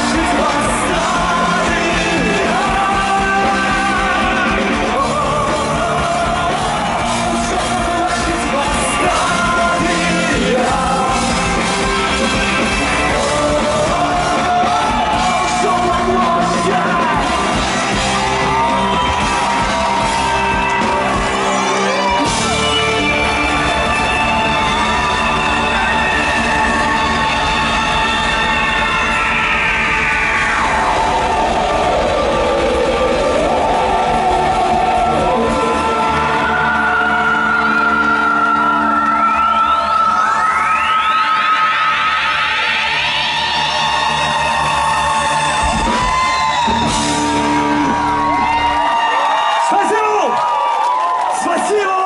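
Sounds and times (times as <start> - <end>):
person singing: 0.0 - 41.8
live rock band playing: 0.0 - 49.5.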